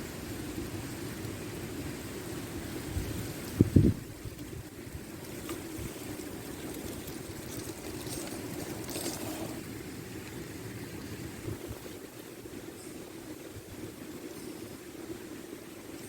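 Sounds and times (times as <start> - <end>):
rushing river water: 1.8 - 16.0.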